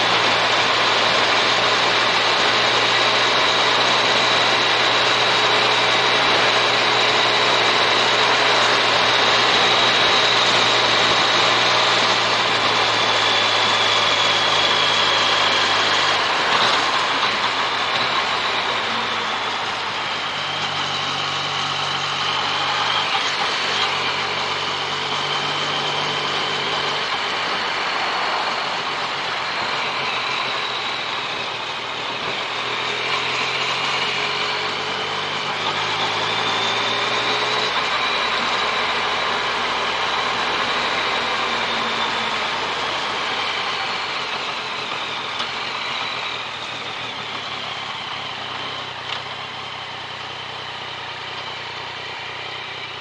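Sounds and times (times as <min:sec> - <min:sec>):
motorcycle engine cruising: 0:00.0 - 0:53.0
wind and road noise: 0:00.0 - 0:53.0.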